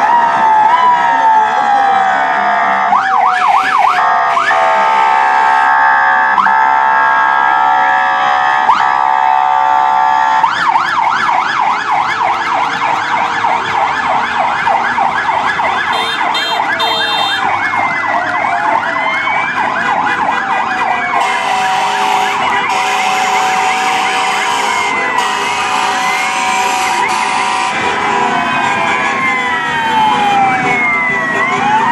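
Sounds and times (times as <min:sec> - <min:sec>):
fire truck sirens: 0:00.0 - 0:31.9.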